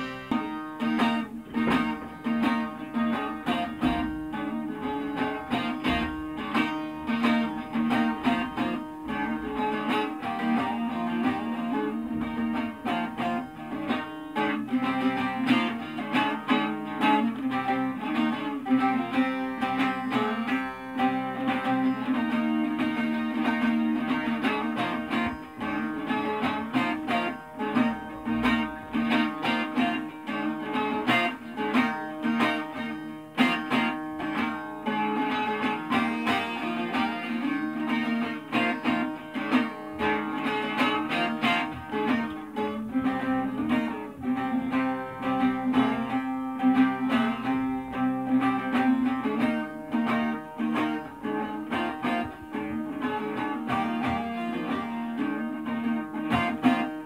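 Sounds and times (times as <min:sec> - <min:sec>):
plucked long-necked lutes: 0:00.0 - 0:57.0.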